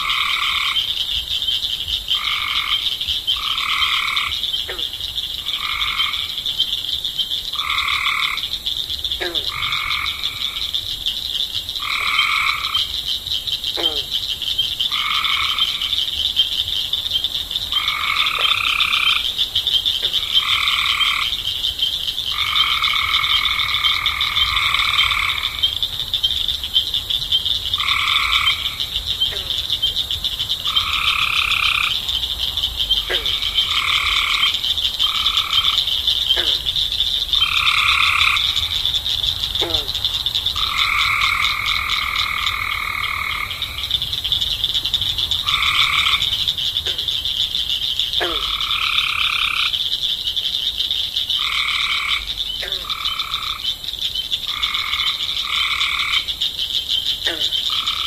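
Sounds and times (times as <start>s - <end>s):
frogs trilling: 0.0s - 58.0s.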